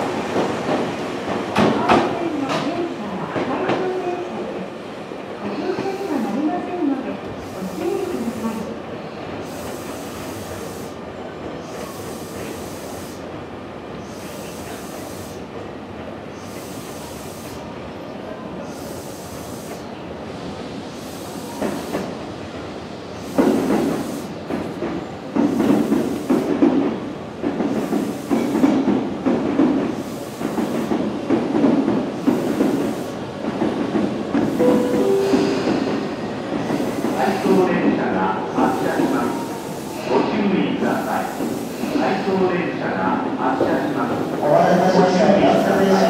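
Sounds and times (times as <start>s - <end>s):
steady hiss from stopped train: 5.3s - 46.0s.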